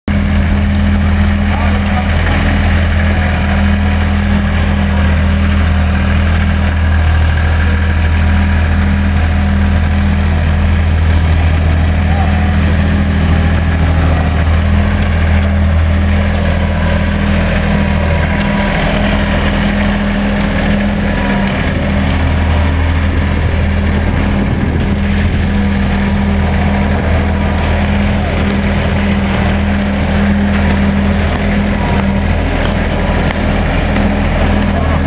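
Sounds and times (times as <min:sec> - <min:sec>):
engine droning steadily: 0:00.0 - 0:35.0.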